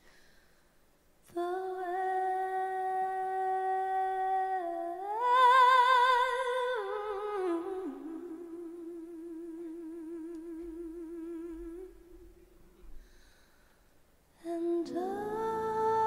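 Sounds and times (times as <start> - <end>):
woman singing unaccompanied: 1.3 - 12.5, 14.4 - 16.0.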